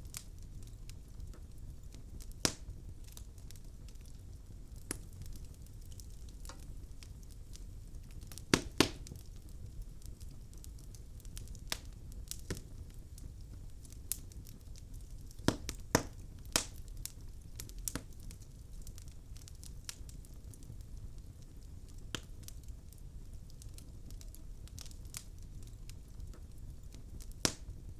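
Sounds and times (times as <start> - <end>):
log fire crackling: 0.0 - 27.9.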